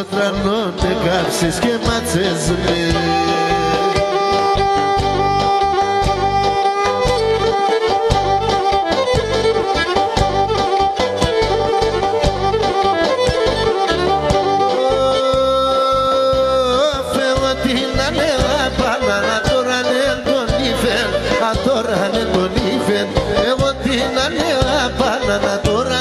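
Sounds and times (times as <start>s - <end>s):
bowed lyra melody: 0.2s - 25.5s.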